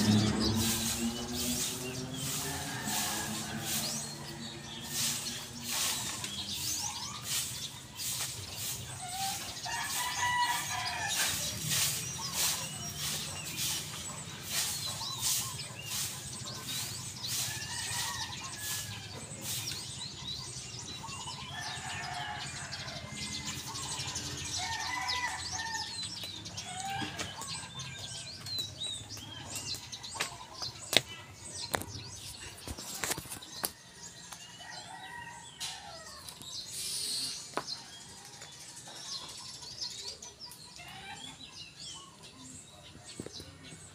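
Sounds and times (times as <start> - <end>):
broom sweeping ground: 0.0 - 33.8, 35.6 - 38.1
chickens clucking: 0.0 - 43.9.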